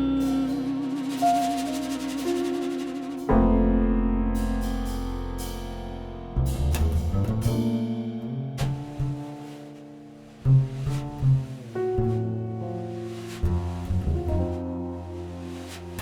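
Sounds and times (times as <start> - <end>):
double bass notes: 0.0 - 16.0
jazz piano: 0.0 - 16.0.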